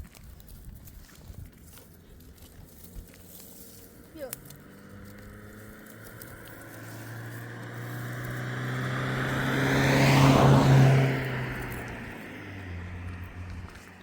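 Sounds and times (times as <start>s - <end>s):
vehicle passing by: 1.6s - 14.0s.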